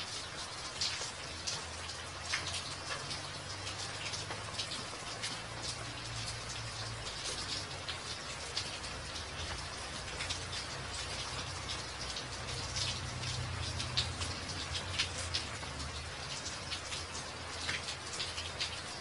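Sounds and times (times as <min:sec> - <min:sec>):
rain falling on wet walkway: 0:00.0 - 0:19.0.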